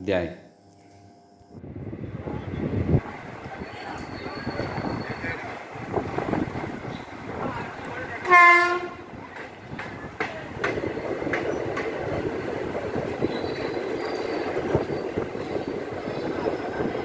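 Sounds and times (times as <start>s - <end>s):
train rumbling on rails: 1.6s - 17.0s
wheels clacking over rail joints: 3.2s - 17.0s.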